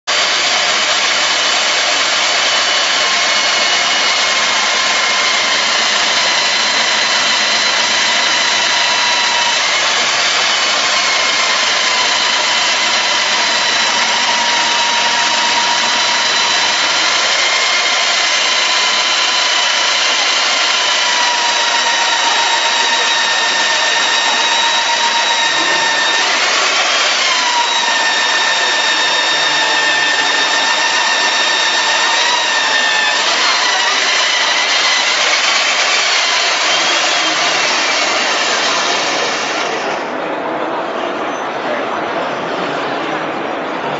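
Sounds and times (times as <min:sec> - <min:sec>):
core drill cutting concrete: 0:00.0 - 0:40.2.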